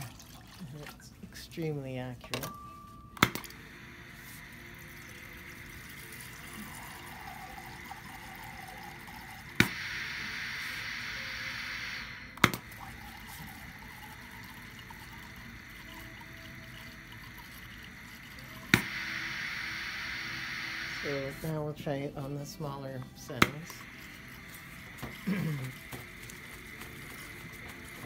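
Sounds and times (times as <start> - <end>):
liquid streaming into beaker: 0.0 - 1.1, 3.9 - 21.7, 23.0 - 28.0.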